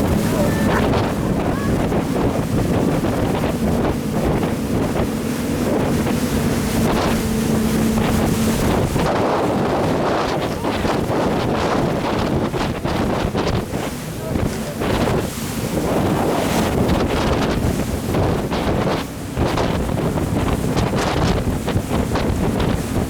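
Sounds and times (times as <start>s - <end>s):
boat engine hum: 0.0s - 23.0s
water rushing: 0.0s - 23.0s
wind buffeting microphone: 0.0s - 23.0s.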